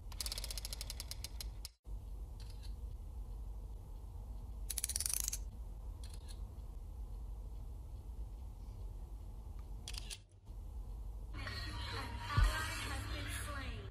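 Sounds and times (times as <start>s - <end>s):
low steady hum: 1.9s - 13.9s.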